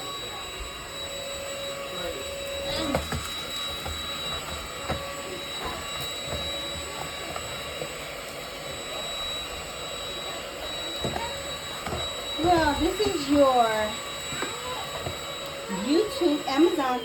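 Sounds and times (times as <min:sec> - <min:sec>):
stick vacuum cleaner whine: 0:00.0 - 0:17.0.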